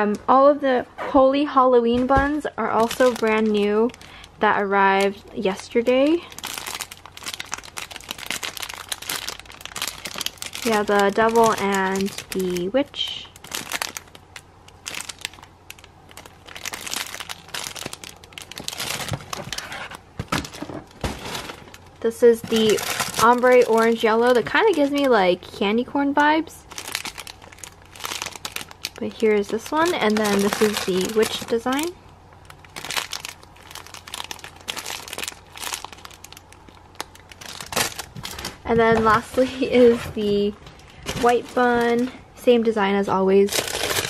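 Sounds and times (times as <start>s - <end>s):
plastic bags crinkling: 2.0s - 42.4s, 43.4s - 44.0s.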